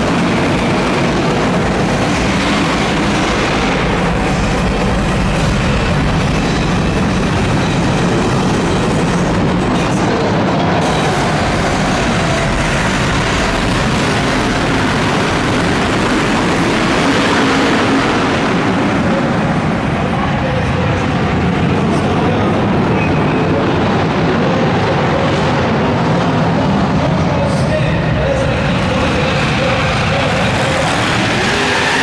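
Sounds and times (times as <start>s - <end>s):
racing car engines roaring: 0.0s - 32.0s.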